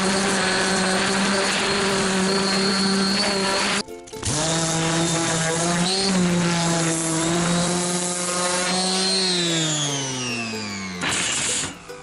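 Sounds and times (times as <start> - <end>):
power tool cutting metal sheet: 0.0 - 12.0.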